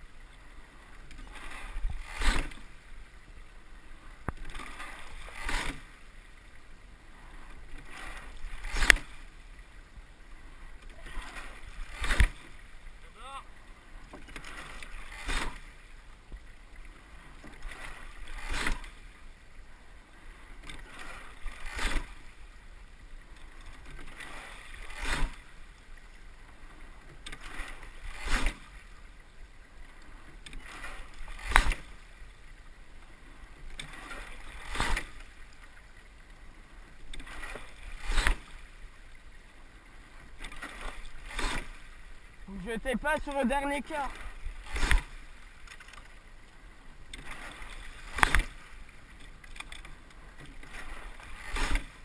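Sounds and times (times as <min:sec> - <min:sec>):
water rushing along hull: 0:00.0 - 0:52.0
oars clacking in oarlocks: 0:00.3 - 0:03.2, 0:03.9 - 0:06.6, 0:07.2 - 0:19.2, 0:20.3 - 0:22.4, 0:23.2 - 0:52.0.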